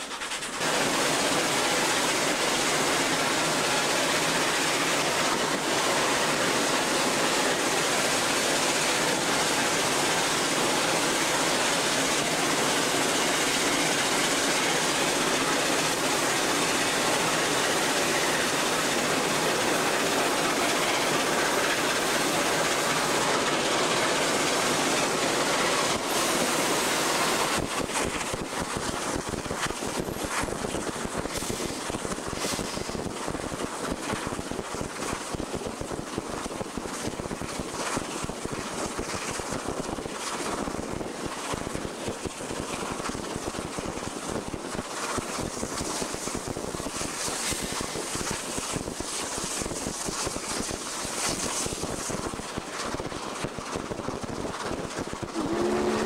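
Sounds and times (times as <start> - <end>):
steam locomotive hissing: 0.0 - 56.0
train clattering: 0.0 - 56.0.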